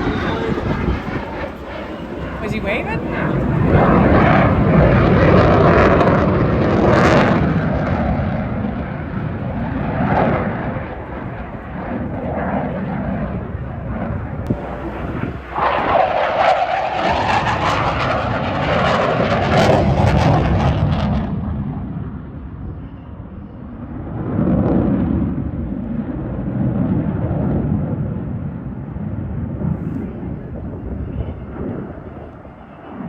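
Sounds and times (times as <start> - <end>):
aircraft engine flying past: 0.0 - 33.0.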